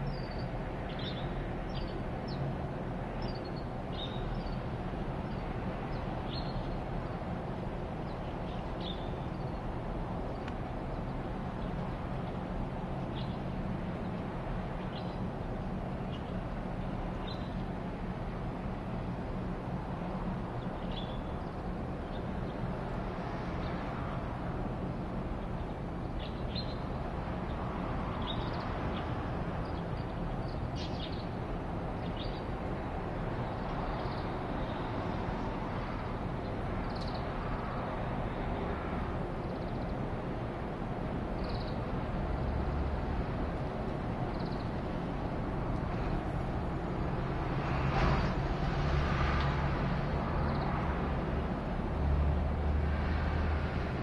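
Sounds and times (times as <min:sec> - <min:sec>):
aircraft drone overhead: 0:00.0 - 0:54.0.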